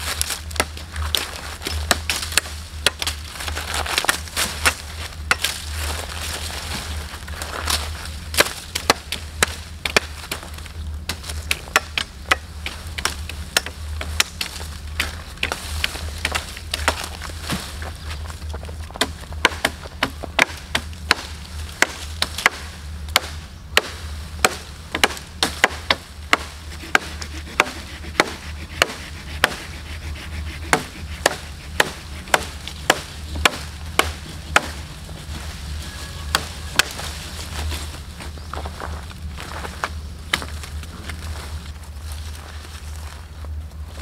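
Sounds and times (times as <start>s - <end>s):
machetes chopping branches: 0.0s - 38.7s, 39.4s - 41.8s.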